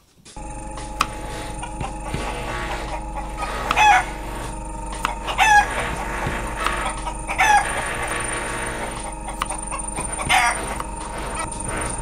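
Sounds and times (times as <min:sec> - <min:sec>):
steady background hum: 0:00.3 - 0:12.0.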